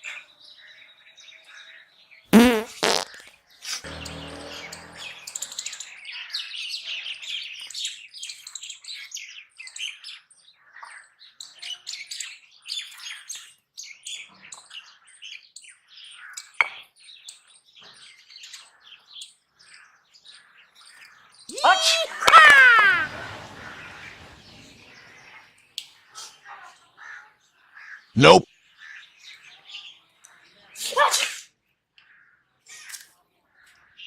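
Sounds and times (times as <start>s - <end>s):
small birds chirping: 0.0s - 30.8s.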